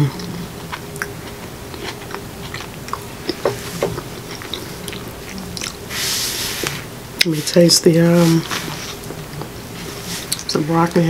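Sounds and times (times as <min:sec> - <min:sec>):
person chewing food: 0:00.0 - 0:07.3, 0:08.4 - 0:10.6.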